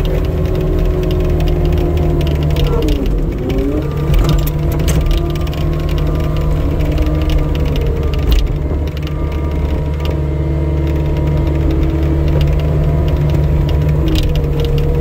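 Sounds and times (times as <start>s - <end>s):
skid steer engine drone: 0.0s - 15.0s
whining drive tones: 0.0s - 15.0s.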